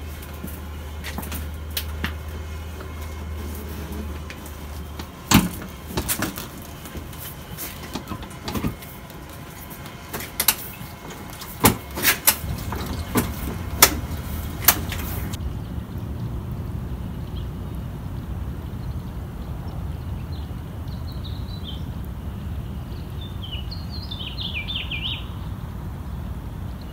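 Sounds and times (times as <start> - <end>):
low steady hum: 0.0 - 26.9.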